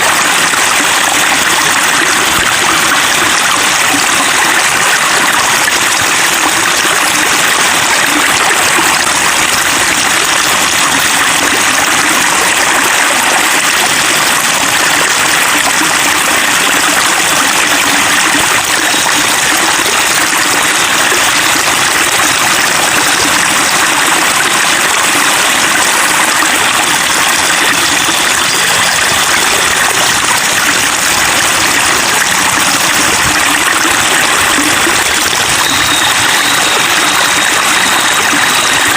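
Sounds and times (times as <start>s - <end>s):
water babbling: 0.0s - 38.9s.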